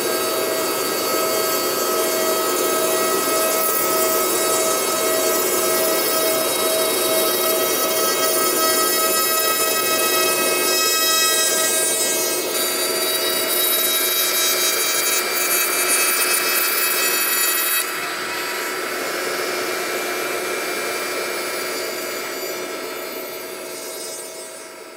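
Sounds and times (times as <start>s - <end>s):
bit cutting wood: 0.0s - 24.9s
router spindle whining: 0.0s - 24.9s.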